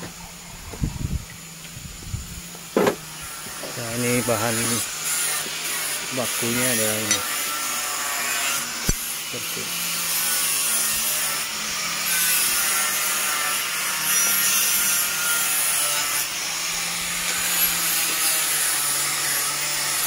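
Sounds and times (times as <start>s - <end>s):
continuous hissing rasp: 0.0s - 20.0s.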